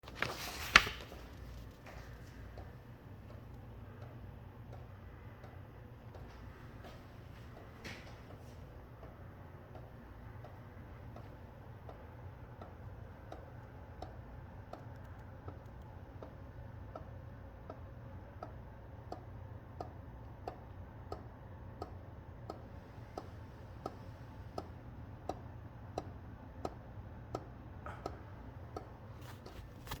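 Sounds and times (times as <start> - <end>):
ceiling fan clicking: 0.0 - 30.0
ceiling fan humming: 0.0 - 30.0.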